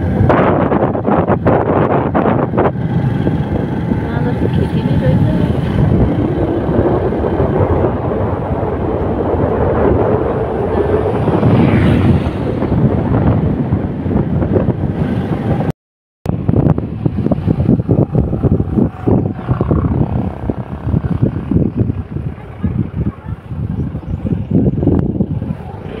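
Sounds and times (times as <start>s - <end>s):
vehicle running on road: 0.0s - 15.7s, 16.3s - 26.0s
wind buffeting microphone: 0.0s - 15.7s, 16.3s - 26.0s.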